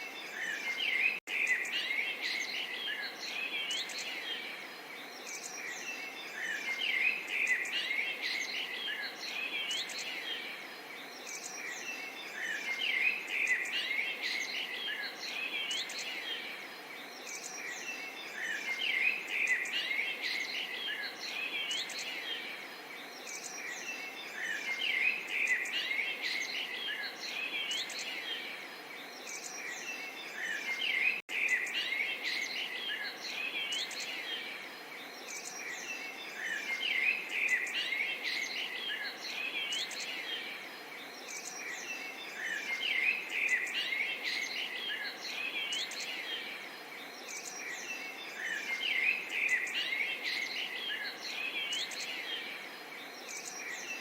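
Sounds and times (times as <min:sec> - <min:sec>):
faint background hiss: 0:00.0 - 0:54.0
small songbirds chirping: 0:00.0 - 0:54.0.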